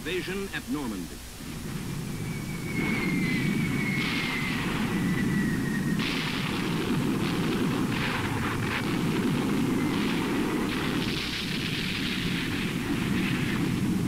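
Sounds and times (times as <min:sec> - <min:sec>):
artillery fire and shell explosions: 0:01.6 - 0:14.0.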